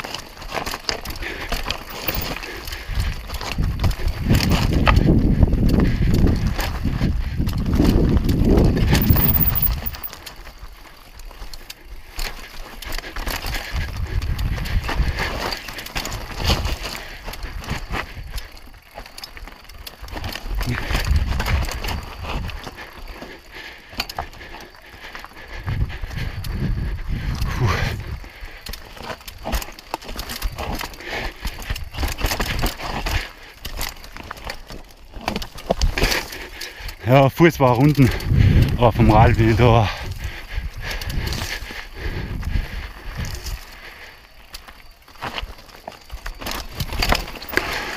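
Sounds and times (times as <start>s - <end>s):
bike parts rattling: 0.0s - 47.9s
bike tyres crunching over rock: 0.0s - 47.9s.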